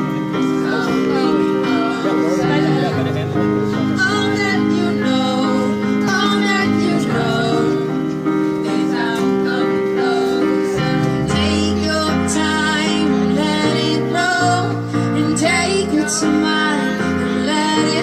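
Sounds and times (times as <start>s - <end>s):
person singing: 0.0s - 18.0s
sustained instrumental chords: 0.0s - 18.0s.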